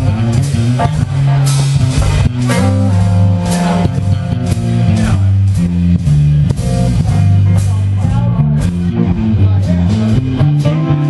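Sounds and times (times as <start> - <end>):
bass line: 0.0 - 11.0
drums with cymbal hits: 0.0 - 11.0
electric guitar sustained notes: 0.0 - 11.0.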